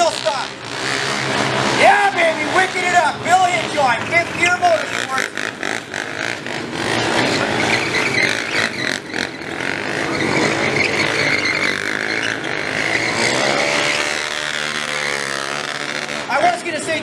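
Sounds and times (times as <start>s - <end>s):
motorcycle engine revving: 0.0s - 17.0s
tyre squealing on pavement: 0.0s - 17.0s.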